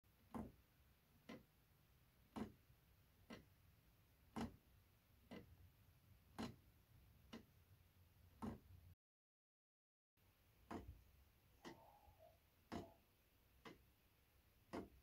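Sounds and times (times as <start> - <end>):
pendulum clock ticking: 0.1 - 8.9, 10.6 - 15.0.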